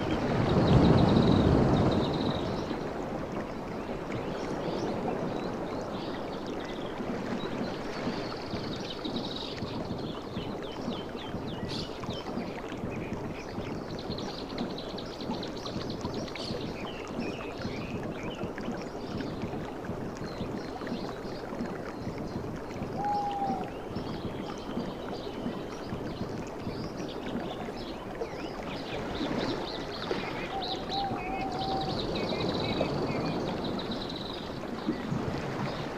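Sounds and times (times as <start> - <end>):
waves washing on a beach: 0.0 - 35.9.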